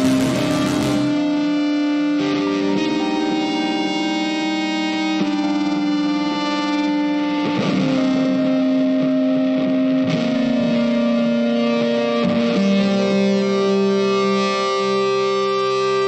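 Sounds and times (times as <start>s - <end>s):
music with long held notes: 0.0s - 16.0s.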